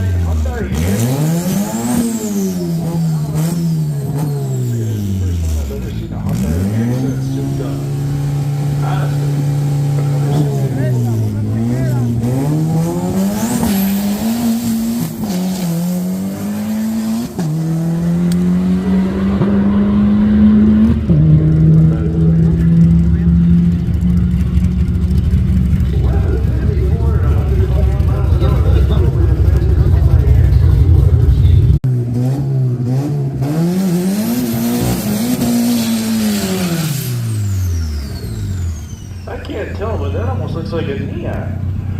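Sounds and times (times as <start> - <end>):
car engine at full throttle: 0.0 - 41.9.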